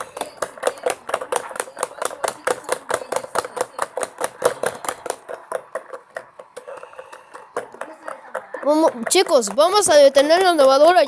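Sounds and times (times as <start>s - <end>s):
rapid even rattling: 0.0s - 11.0s.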